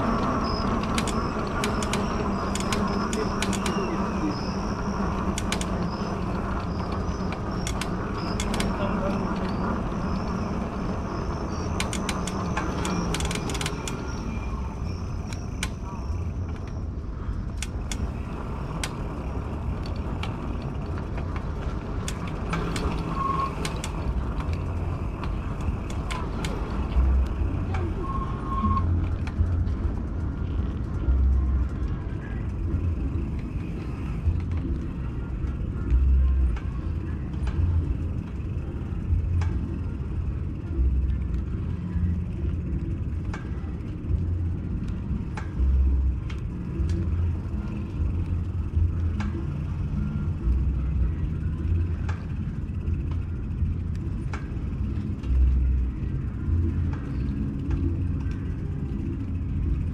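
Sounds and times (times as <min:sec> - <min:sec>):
scattered clicks: 0:00.0 - 0:59.9
wind and tyre rumble: 0:00.0 - 0:59.9.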